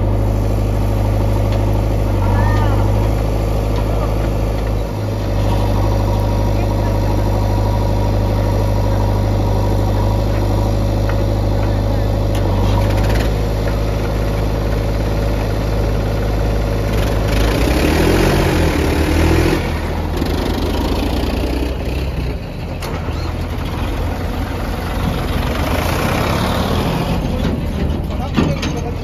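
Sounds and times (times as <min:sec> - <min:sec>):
engine revving: 0:00.0 - 0:28.0
diesel tractor engines running: 0:00.0 - 0:29.0.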